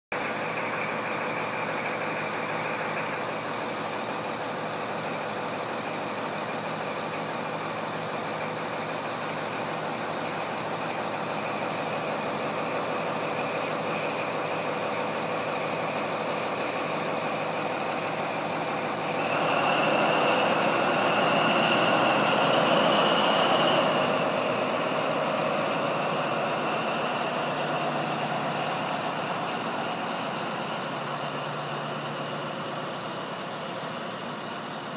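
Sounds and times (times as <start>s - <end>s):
diesel train engine running: 0.1s - 34.9s
high engine whine: 0.2s - 34.9s.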